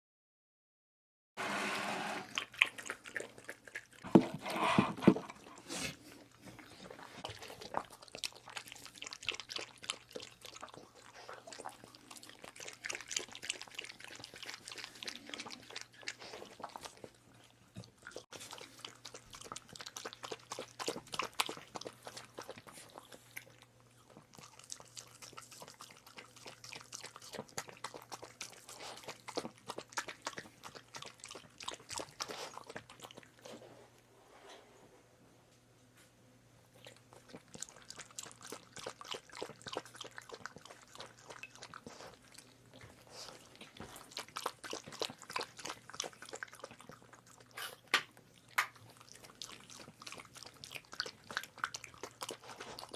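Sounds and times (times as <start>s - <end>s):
puppy wet chewing: 2.3s - 33.7s, 36.7s - 52.9s.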